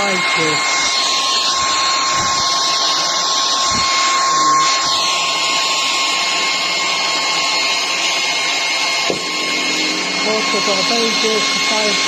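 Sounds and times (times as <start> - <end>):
stick vacuum cleaner running: 0.0 - 12.0.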